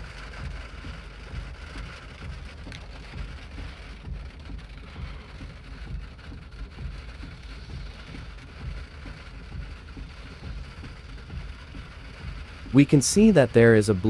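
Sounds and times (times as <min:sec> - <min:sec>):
low wind rumble: 0:00.0 - 0:14.0
rain hiss: 0:00.0 - 0:14.0.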